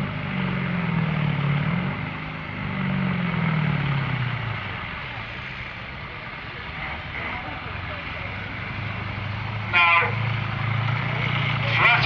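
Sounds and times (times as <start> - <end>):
tractor engine working hard: 0.0 - 12.0.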